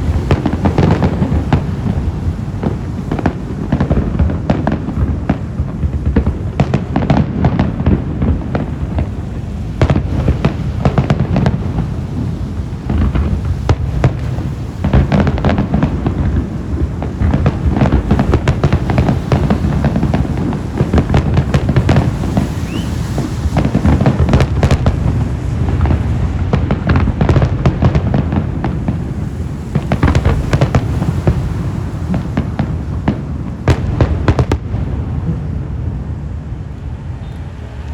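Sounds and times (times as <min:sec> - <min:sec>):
constant low rumble: 0:00.0 - 0:37.9
fireworks bangs and crackles: 0:00.0 - 0:37.9.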